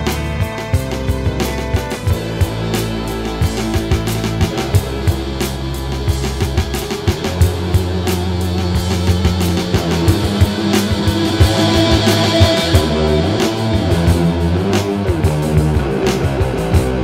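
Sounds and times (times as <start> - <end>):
rock guitar: 0.0 - 17.0
steady drum beat: 0.0 - 17.0.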